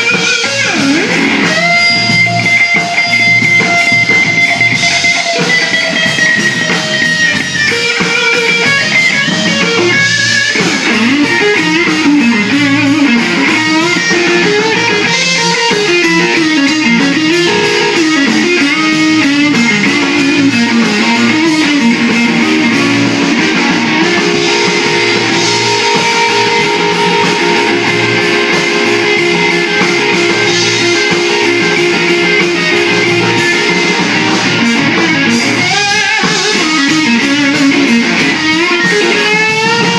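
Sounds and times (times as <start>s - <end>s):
bass guitar: 0.0s - 39.9s
drums: 0.0s - 39.9s
electric guitar solo: 0.0s - 39.9s.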